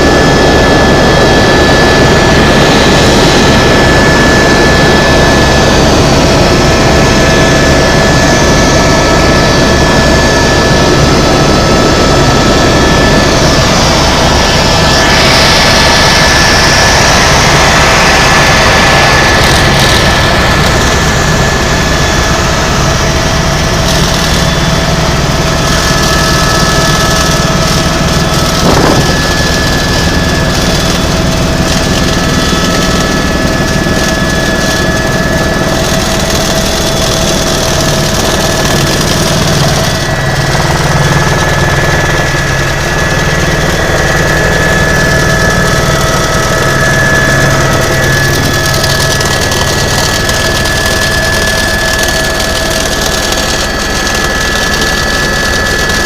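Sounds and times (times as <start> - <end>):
helicopter rotor rumble: 0.0 - 56.0
high turbine whine: 0.0 - 56.0.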